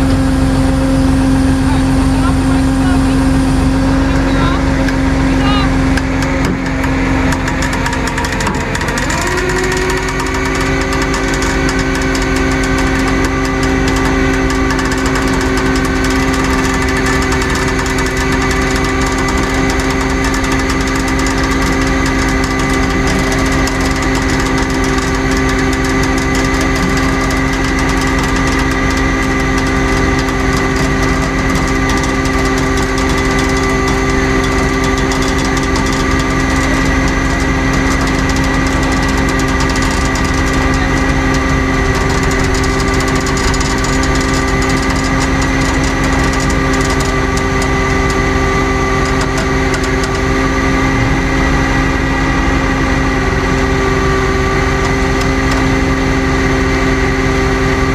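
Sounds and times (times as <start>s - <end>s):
steady whine: 0.0s - 57.9s
truck engine droning: 0.0s - 57.9s.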